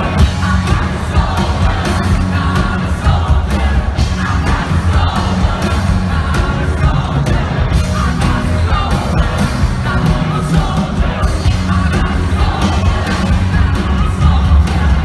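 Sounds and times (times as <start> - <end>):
live rock band playing: 0.0 - 15.0
person singing: 0.0 - 15.0.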